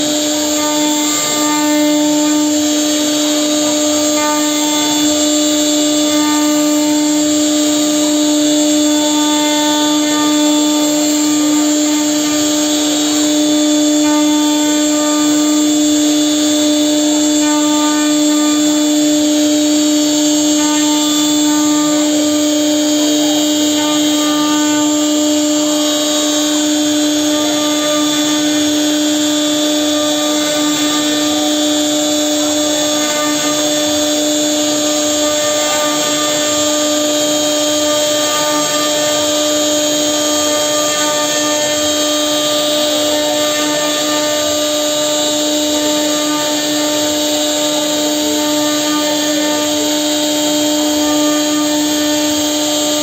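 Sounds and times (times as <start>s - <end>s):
router bit carving wood: 0.0s - 53.0s
router spindle whining: 0.0s - 53.0s.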